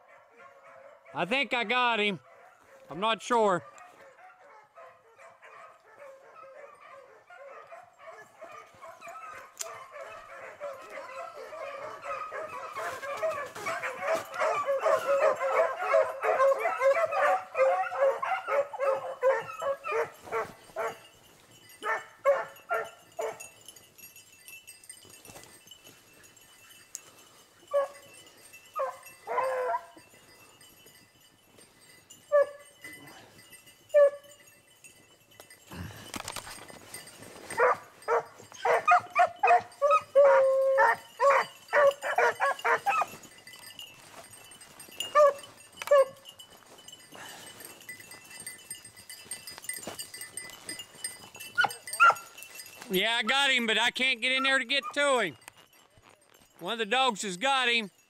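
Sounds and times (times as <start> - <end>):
dogs baying and yelping: 0.0 - 1.2, 2.2 - 2.9, 3.6 - 24.3, 25.0 - 30.7, 32.1 - 34.6, 35.4 - 52.9.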